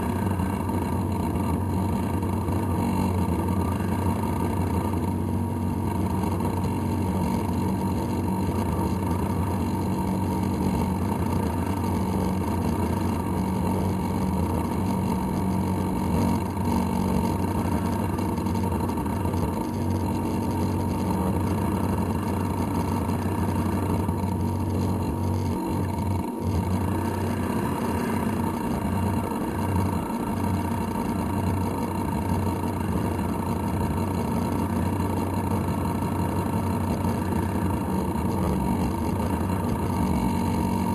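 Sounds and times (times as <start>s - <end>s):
model boat engine droning: 0.0s - 40.9s.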